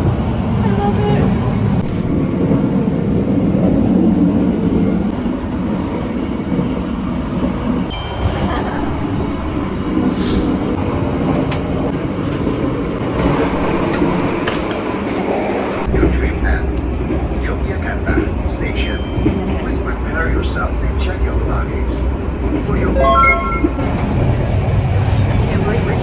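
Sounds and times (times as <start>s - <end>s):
train wheels rumbling on rails: 0.0s - 23.0s, 23.8s - 26.0s.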